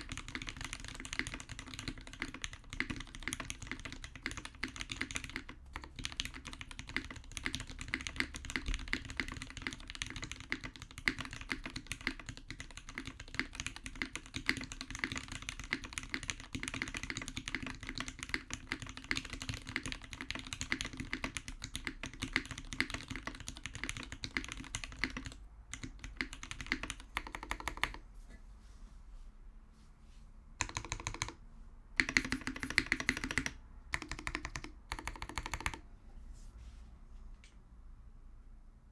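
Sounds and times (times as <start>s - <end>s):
mechanical keyboard typing: 0.0s - 28.0s, 30.6s - 31.4s, 32.0s - 35.8s.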